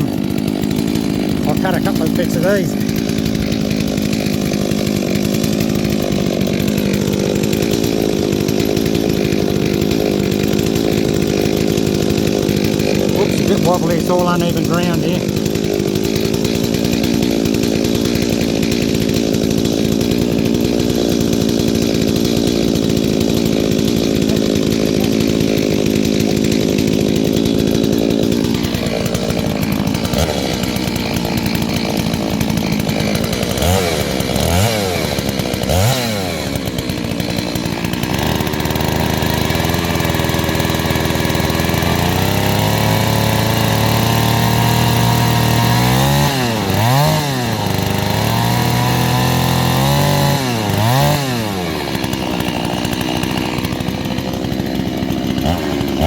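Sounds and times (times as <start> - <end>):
chainsaw revving while cutting wood: 0.0 - 56.0.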